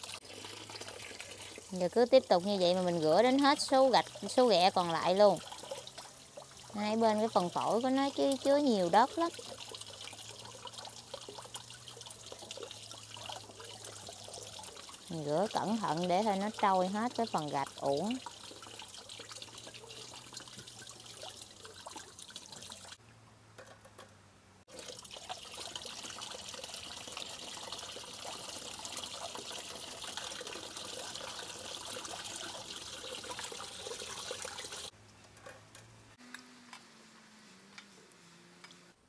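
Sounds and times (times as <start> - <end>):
tap water running: 0.0 - 23.0, 24.7 - 34.9.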